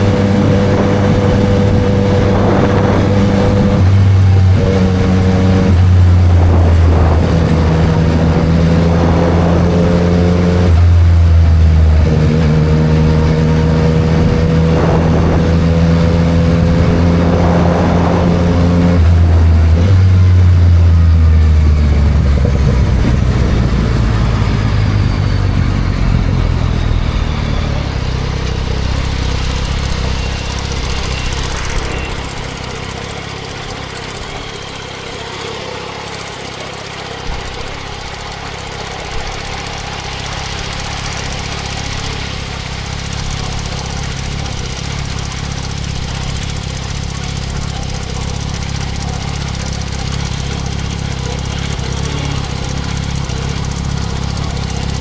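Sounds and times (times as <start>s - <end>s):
motorcycle engine slowing to idle: 0.0s - 55.0s.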